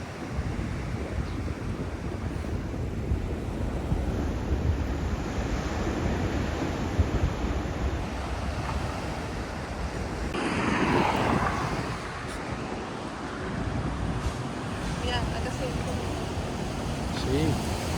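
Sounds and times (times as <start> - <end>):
sea surf rushing: 0.0 - 17.9
wind buffeting microphone: 0.0 - 17.9.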